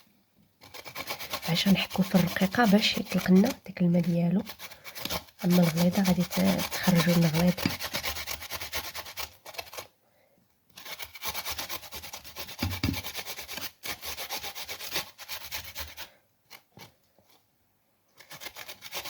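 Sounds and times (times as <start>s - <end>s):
vegetable scraping on grater: 0.6s - 9.9s, 10.7s - 17.0s, 18.2s - 19.0s.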